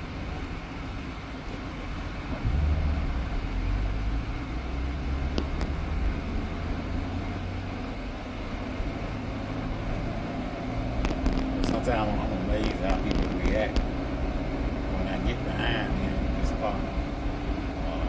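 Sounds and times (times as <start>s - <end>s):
car engine inside cabin: 0.0s - 18.0s
road noise: 0.0s - 18.0s.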